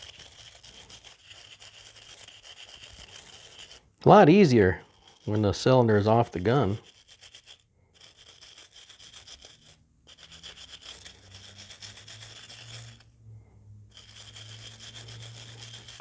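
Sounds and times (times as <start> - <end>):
brush scrubbing metal: 0.0 - 13.1, 13.9 - 16.0.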